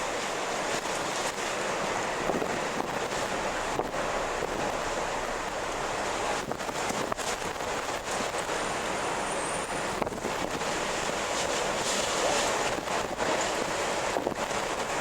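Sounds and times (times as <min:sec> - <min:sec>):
strong wind gusting: 0:00.1 - 0:15.0.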